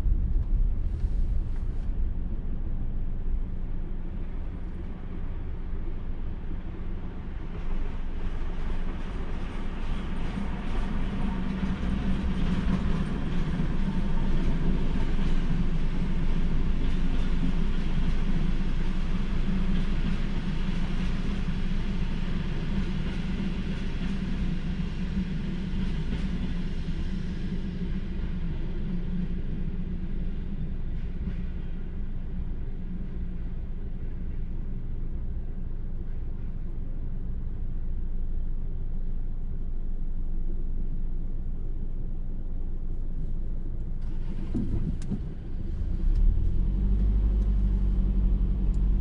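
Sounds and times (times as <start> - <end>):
train rumbling past: 0.0 - 41.0, 43.2 - 49.0.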